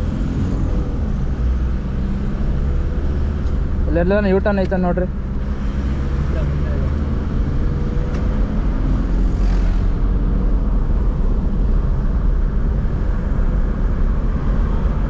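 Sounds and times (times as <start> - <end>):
road noise: 0.0 - 15.0
truck engine low rumble: 0.0 - 15.0.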